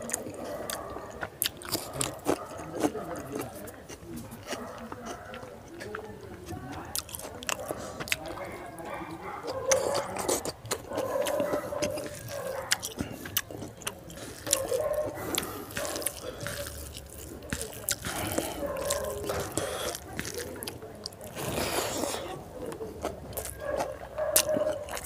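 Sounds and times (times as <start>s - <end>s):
man chewing with wet mouth sounds: 0.0s - 25.0s.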